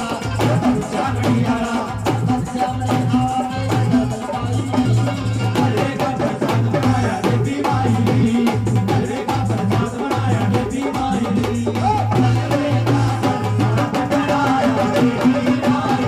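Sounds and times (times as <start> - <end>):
fast drum beat: 0.0 - 16.0.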